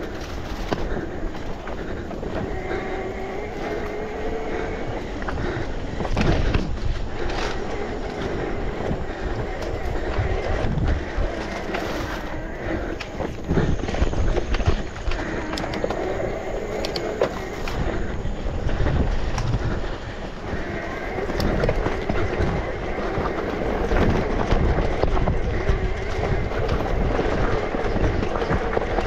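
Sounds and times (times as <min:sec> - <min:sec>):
bike rattling and knocking: 0:00.0 - 0:29.0
bike tyres rolling on dirt: 0:00.0 - 0:29.0.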